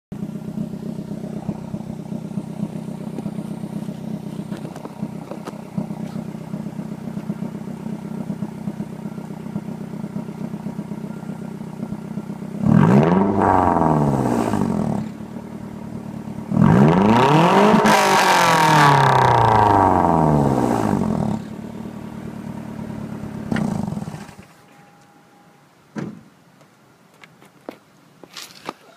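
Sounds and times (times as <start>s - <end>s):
car engine idling and revving: 0.1s - 24.7s.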